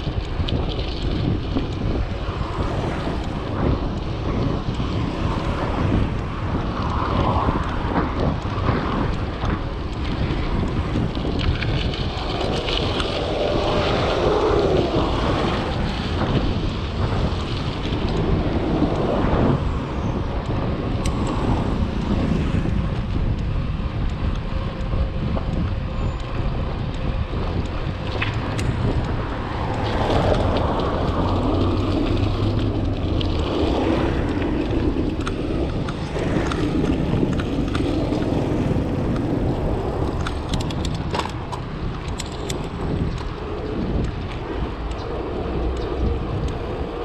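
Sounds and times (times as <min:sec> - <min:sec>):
tyre and road rumble: 0:00.0 - 0:47.0
wind buffeting microphone: 0:00.0 - 0:47.0.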